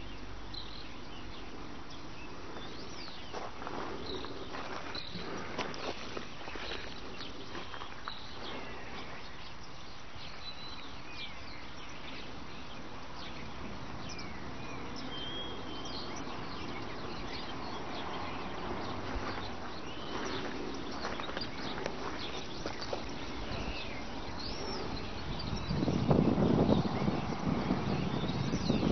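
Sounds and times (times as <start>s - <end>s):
steady background hiss: 0.0s - 28.9s.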